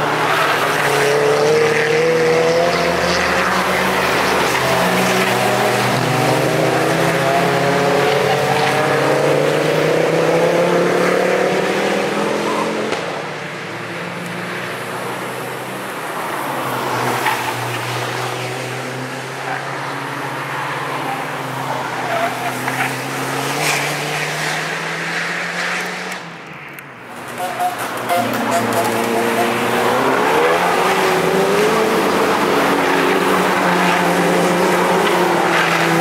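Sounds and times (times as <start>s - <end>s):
car engines accelerating: 0.0s - 36.0s.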